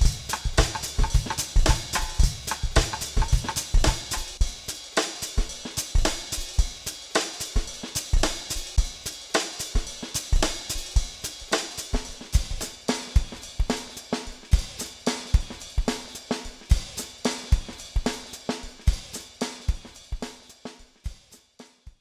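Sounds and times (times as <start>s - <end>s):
drum kit beat: 0.0s - 22.0s.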